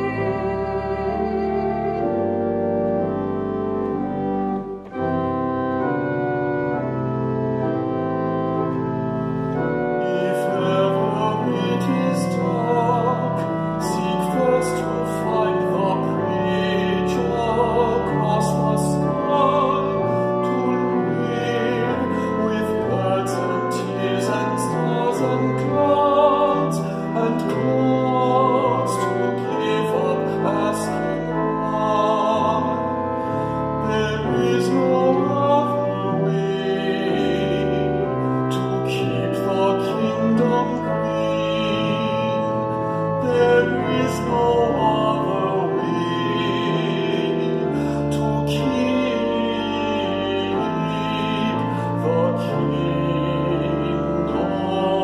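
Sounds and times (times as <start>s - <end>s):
man singing: 0.0s - 2.2s, 10.0s - 55.0s
pipe organ chords: 0.0s - 55.0s.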